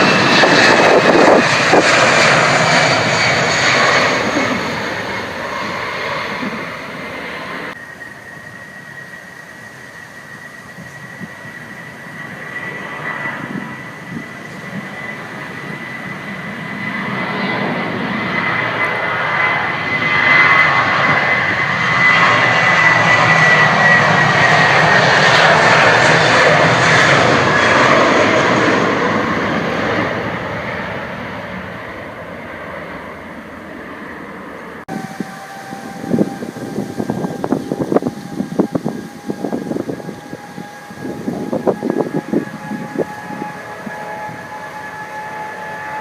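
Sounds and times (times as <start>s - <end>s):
jet engine roar with fan whine: 0.0s - 46.0s.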